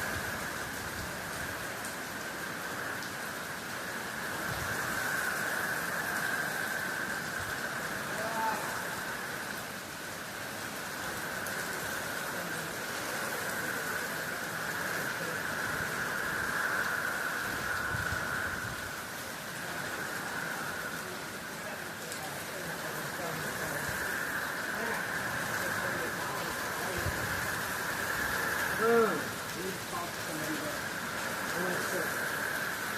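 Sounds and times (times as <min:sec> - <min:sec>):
rain falling on a roof: 0:00.0 - 0:32.9.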